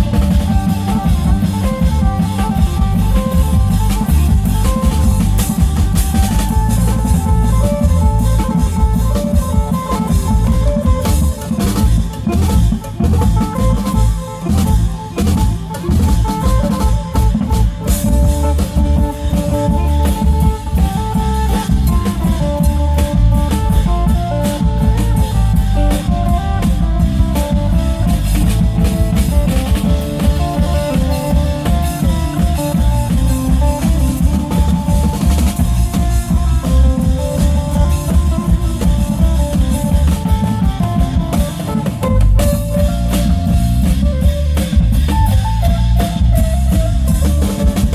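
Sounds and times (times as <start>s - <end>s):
long drums driving beat: 0.0s - 47.9s
lute melody: 0.0s - 47.9s.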